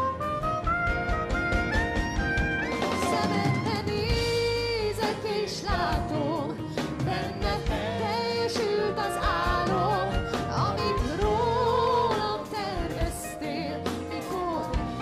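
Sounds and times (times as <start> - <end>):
gospel band playing: 0.0 - 15.0.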